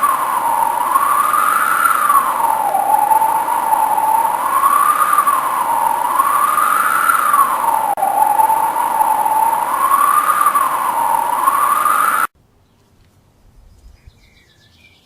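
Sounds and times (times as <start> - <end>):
siren wailing: 0.0 - 12.3
steady hiss: 0.0 - 13.6.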